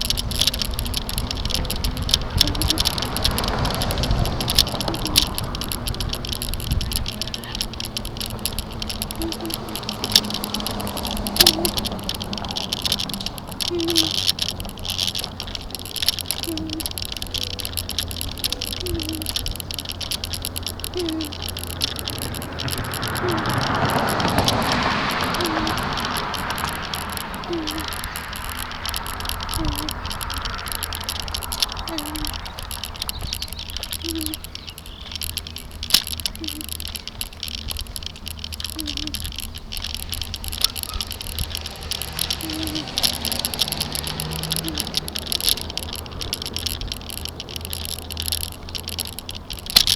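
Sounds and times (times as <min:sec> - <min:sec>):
bicycle rattling over bumpy road: 0:00.0 - 0:49.9.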